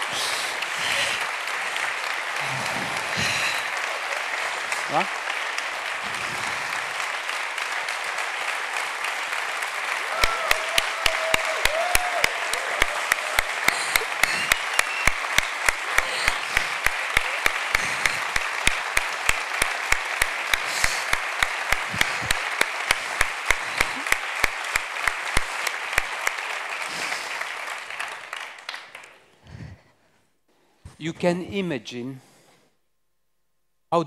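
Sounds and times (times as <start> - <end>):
sharp claps close to microphone: 0.0 - 29.3
audience applauding: 0.0 - 29.8.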